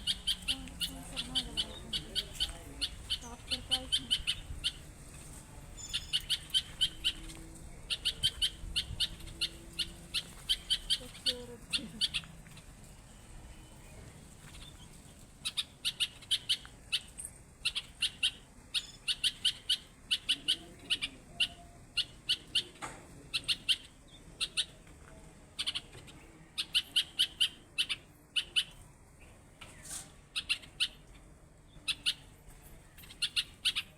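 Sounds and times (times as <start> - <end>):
songbird chirping: 0.0 - 33.9.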